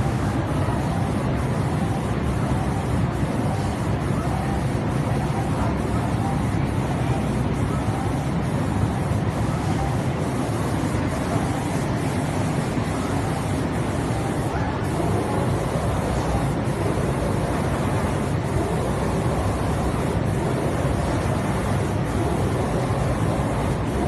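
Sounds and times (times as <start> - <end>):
spray painting machine running: 0.0 - 24.0.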